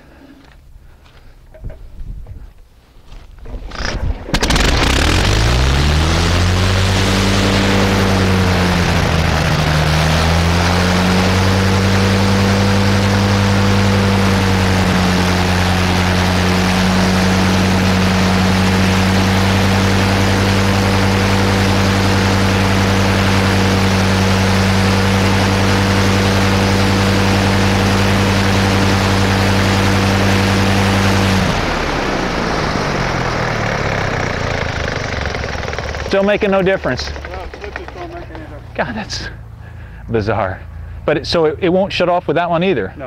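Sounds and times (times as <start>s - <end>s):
engine and propeller winding down: 3.7s - 42.0s
rotary aero engine running: 3.7s - 42.0s.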